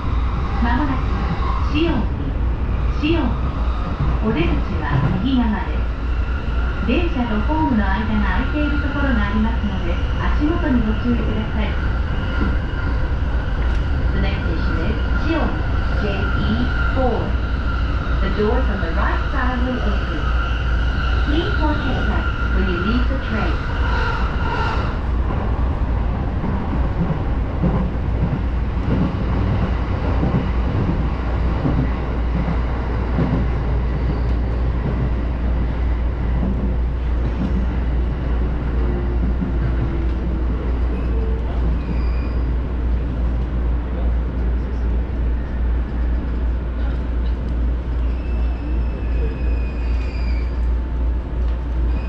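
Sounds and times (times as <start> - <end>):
faint falling whine of train: 0.0 - 52.0
train cabin rumble: 0.0 - 52.0.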